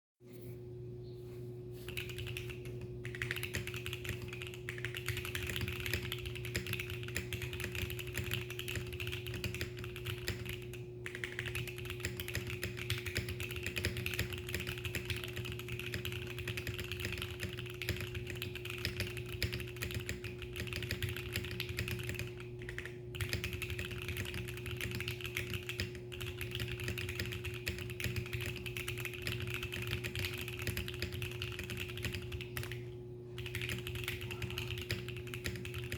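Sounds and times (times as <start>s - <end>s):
faint steady hum: 0.2s - 35.9s
mechanical keyboard typing: 1.9s - 35.9s.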